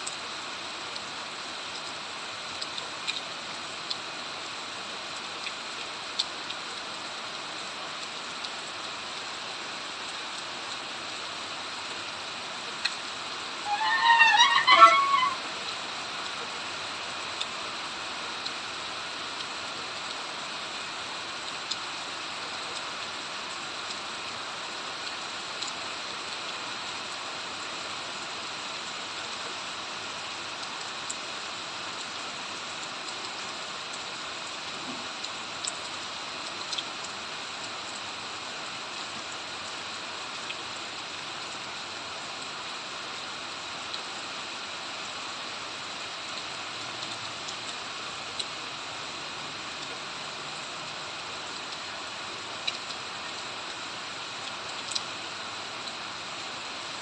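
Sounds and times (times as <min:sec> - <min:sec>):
sharp raindrops striking close: 0:00.0 - 0:57.0
steady rain falling: 0:00.0 - 0:57.0.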